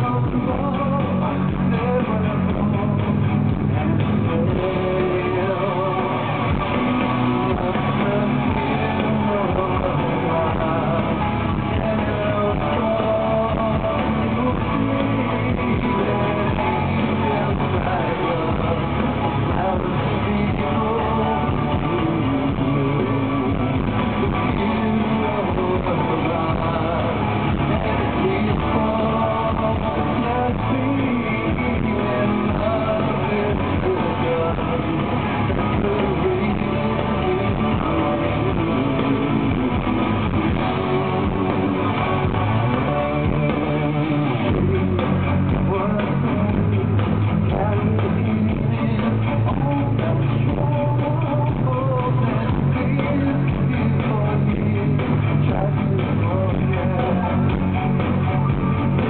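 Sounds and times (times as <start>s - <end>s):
live rock band: 0.0s - 59.0s.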